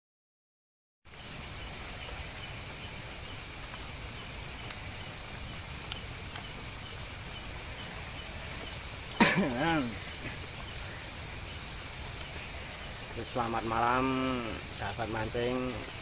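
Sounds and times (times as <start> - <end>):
night insects chirping: 1.1 - 16.0.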